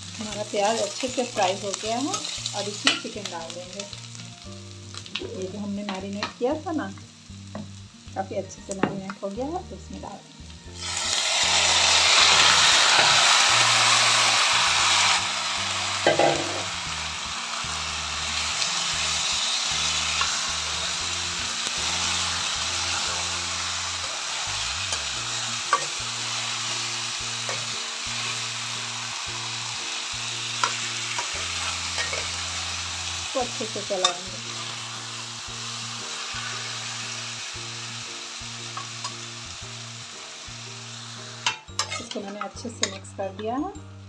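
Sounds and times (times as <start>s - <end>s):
chicken sizzling in hot oil: 0.0s - 43.7s.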